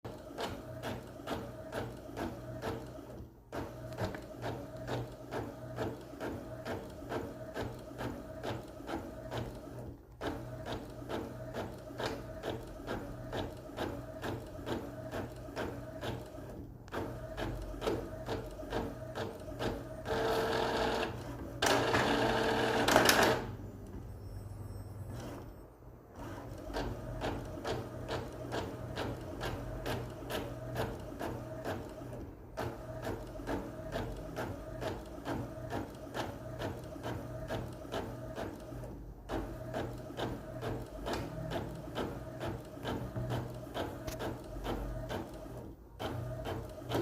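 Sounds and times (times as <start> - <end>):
printer whirring: 0.1 - 47.0.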